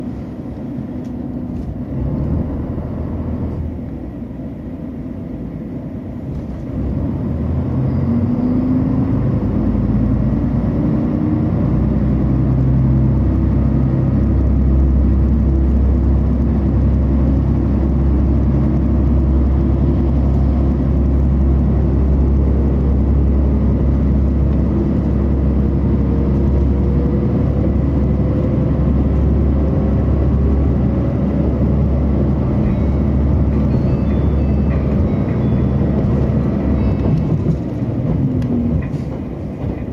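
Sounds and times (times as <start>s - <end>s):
diesel railcar engine rumble: 0.0s - 39.9s.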